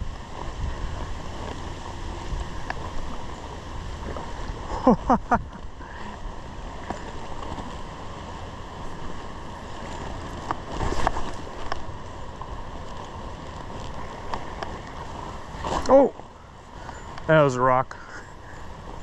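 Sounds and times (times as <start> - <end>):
wind buffeting the microphone: 0.0 - 17.3
stream water running: 0.0 - 19.0.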